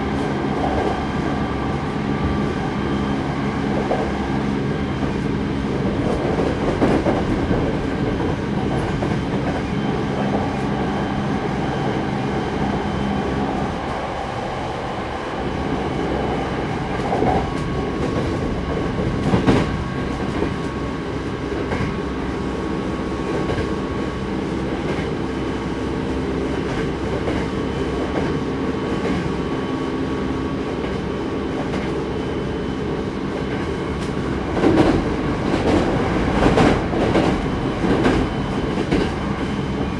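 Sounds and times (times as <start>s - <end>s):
train running noise: 0.0s - 39.9s.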